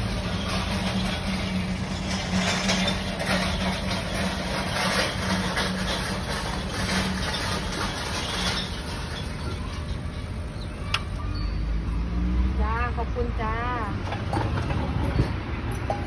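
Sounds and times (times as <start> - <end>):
street background noise: 0.0 - 16.0.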